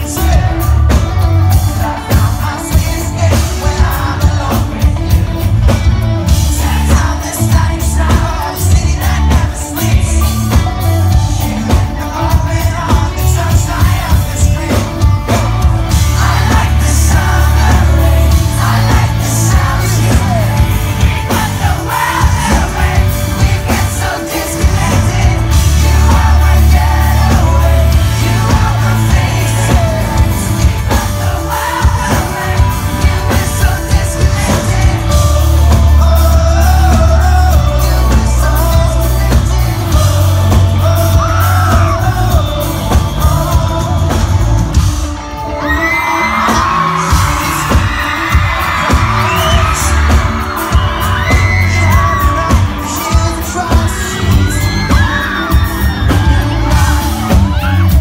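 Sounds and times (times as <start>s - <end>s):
live pop-rock band playing: 0.0s - 58.0s
person singing: 0.0s - 58.0s.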